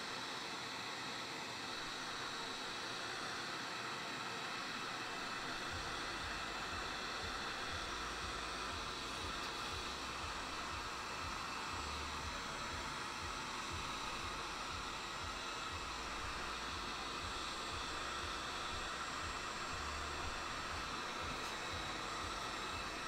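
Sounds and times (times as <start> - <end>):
heat gun fan hissing: 0.0 - 23.0.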